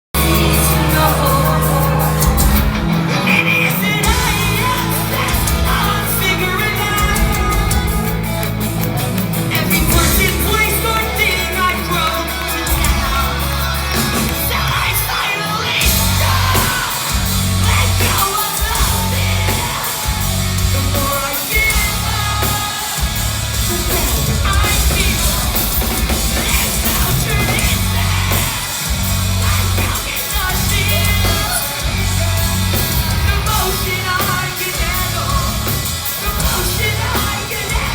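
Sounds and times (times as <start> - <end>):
live rock band playing: 0.0 - 37.9
singer singing and yelling: 0.1 - 37.9.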